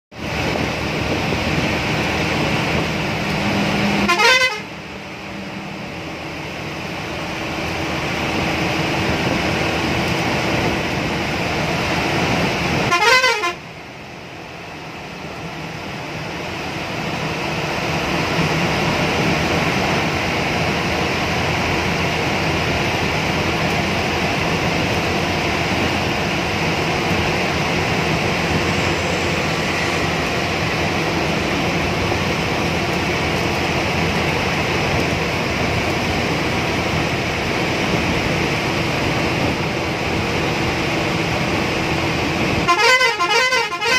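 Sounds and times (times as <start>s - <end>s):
bus engine and road noise: 0.1s - 43.9s.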